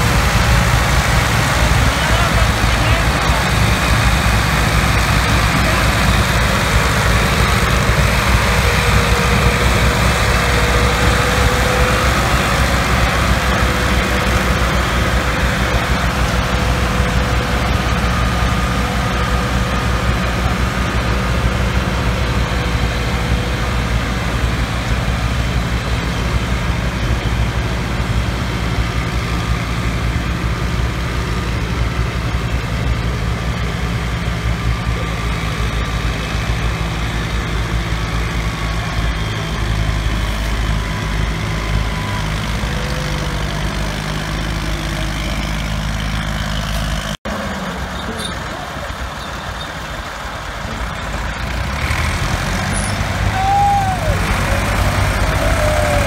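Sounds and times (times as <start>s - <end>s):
tractor diesel engines under load: 0.0s - 56.0s.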